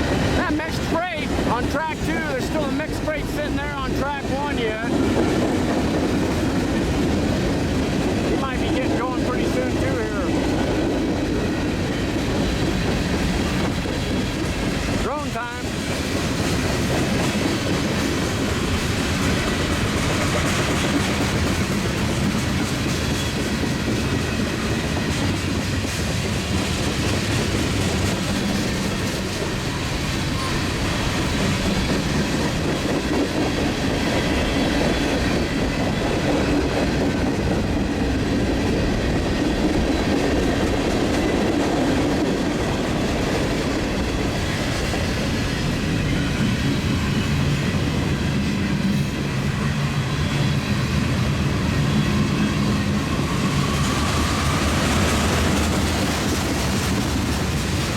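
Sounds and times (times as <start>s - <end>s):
steel wheels clattering on rails: 0.0s - 57.9s
train cars rumbling: 0.0s - 57.9s.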